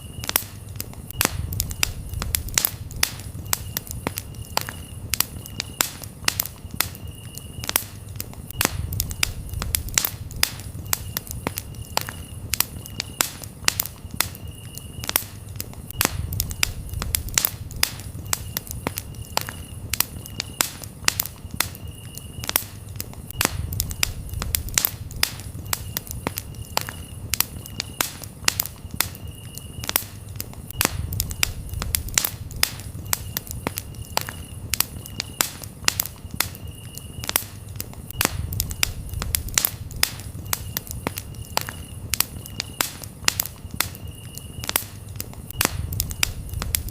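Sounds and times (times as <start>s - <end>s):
campfire crackling and popping: 0.0s - 46.9s
crickets chirping: 0.0s - 46.9s
low rumble of flame: 0.0s - 46.9s.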